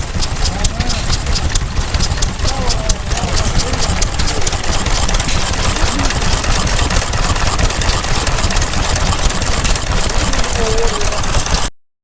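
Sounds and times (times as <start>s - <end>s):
stationary engine running: 0.0s - 11.7s.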